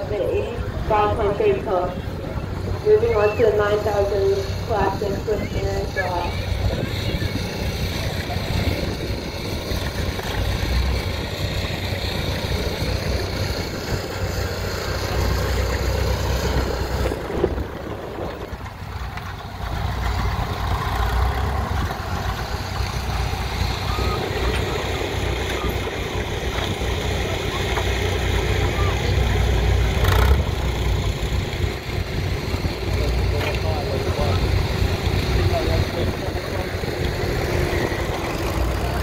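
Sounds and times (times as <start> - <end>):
tractor engines running: 0.0 - 39.0.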